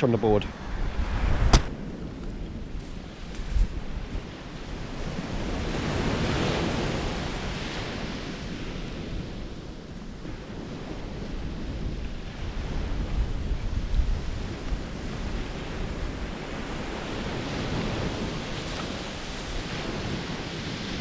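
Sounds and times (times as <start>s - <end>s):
wind buffeting microphone: 0.0s - 21.0s
surf breaking on beach: 3.2s - 21.0s.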